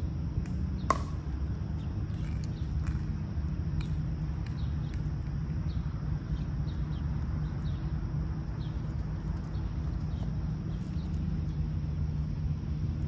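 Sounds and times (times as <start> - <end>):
small bird chirping: 0.6 - 13.0.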